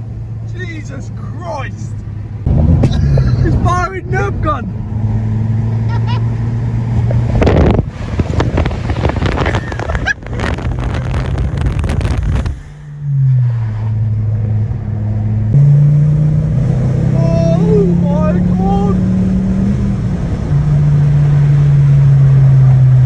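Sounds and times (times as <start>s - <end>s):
car engine and exhaust droning: 0.0s - 23.0s.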